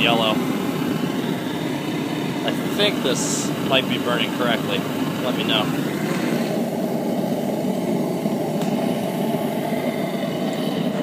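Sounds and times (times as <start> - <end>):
propane forge burner rushing: 0.0 - 11.0.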